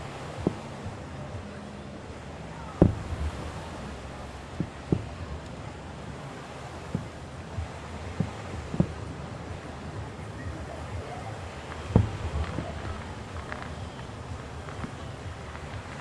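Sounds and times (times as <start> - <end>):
distant fireworks bursting: 0.0 - 16.0
ocean surf: 0.0 - 16.0
wind: 0.0 - 16.0.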